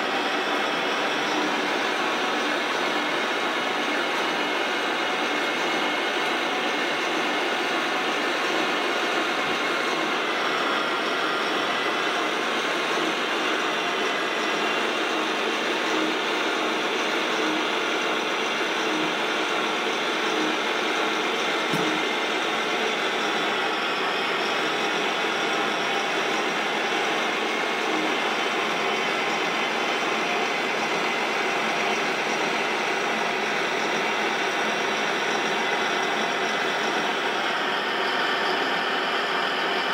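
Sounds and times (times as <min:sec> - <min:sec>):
model bulldozer tracks running: 0:00.0 - 0:39.9.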